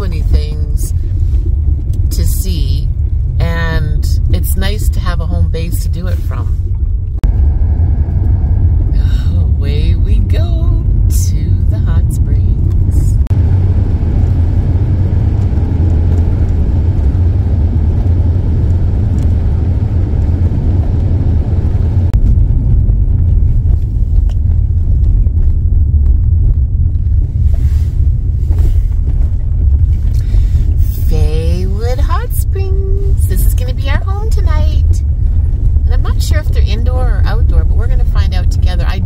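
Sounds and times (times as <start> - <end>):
car cabin road rumble: 0.0 - 39.0.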